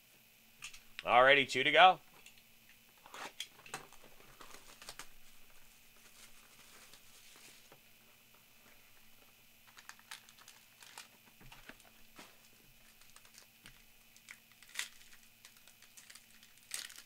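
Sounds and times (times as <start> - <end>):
packaging crinkling: 3.0 - 17.0.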